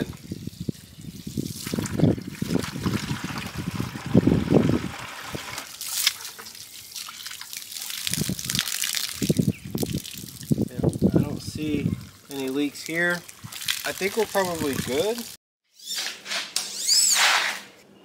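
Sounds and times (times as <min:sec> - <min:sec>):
thin stream of water running: 0:00.0 - 0:15.4
water trickling and splashing: 0:00.0 - 0:15.4.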